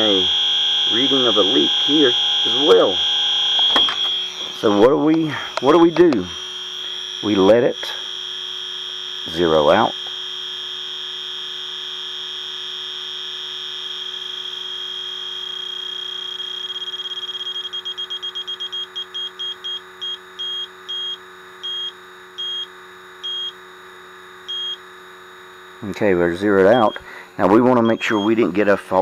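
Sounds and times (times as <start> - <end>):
leak detector tone and beeps: 0.0 - 28.6.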